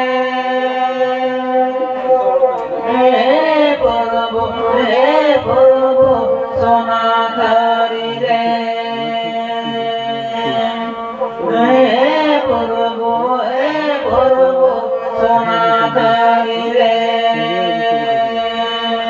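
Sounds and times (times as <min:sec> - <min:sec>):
steady held drone: 0:00.0 - 0:19.0
women singing devotional chant: 0:00.0 - 0:19.0.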